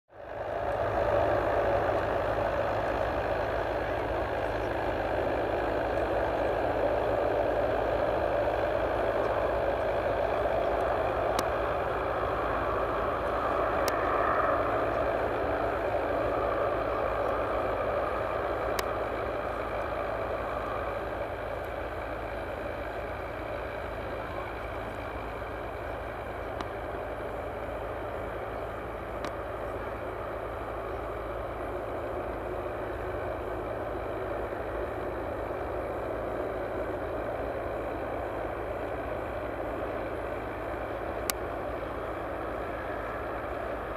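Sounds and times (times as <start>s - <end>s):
airliner rushing hum: 0.4s - 43.9s.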